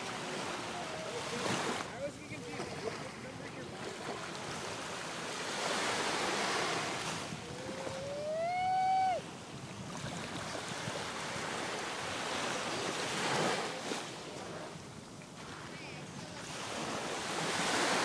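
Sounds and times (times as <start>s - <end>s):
waves washing onto beach: 0.0s - 18.0s.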